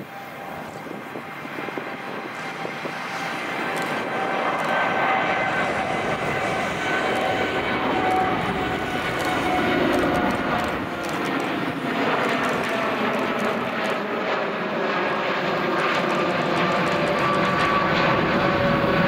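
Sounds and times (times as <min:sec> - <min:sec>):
jet engines roaring at takeoff: 0:00.0 - 0:19.0.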